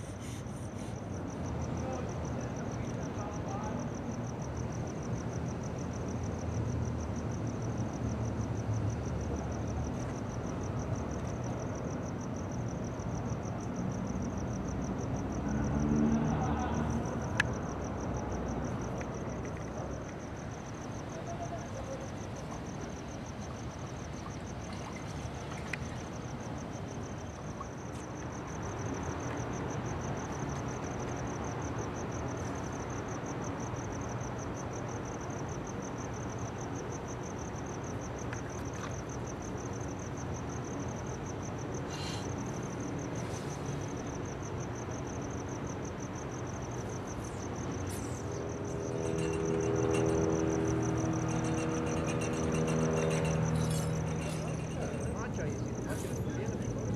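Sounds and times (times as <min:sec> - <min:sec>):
cricket chirping: 0:00.0 - 0:56.9.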